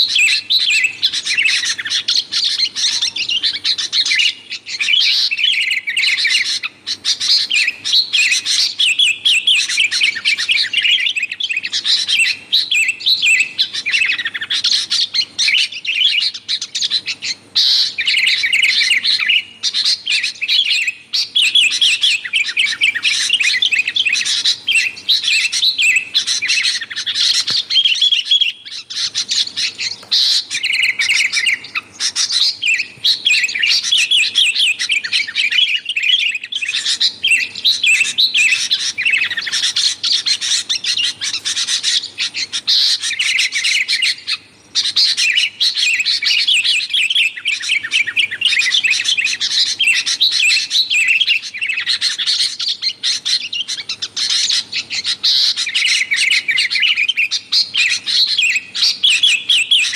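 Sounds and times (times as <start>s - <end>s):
bulbuls chattering: 0.0s - 59.9s.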